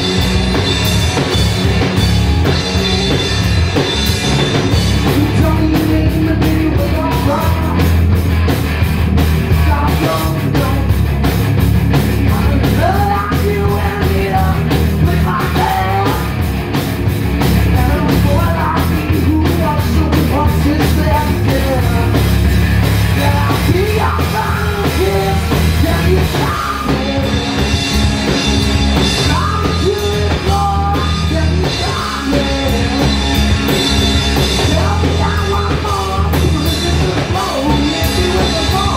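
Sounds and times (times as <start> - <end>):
punk rock band playing: 0.0 - 38.9.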